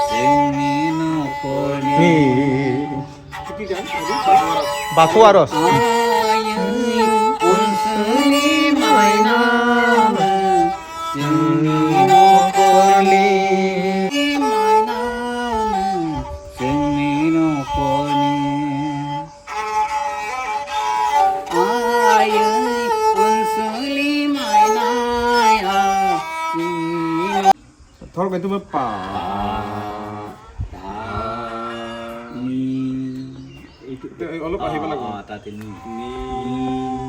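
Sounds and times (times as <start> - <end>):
bowed fiddle melody: 0.0 - 27.6, 28.8 - 37.0.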